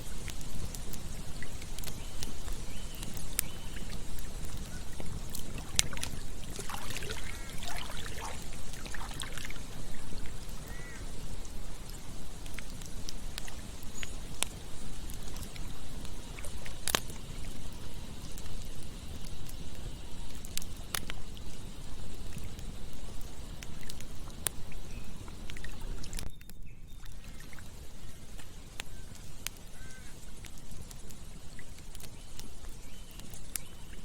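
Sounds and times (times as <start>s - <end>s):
campfire burning: 0.0s - 34.0s
fire crackling and popping: 0.0s - 34.0s.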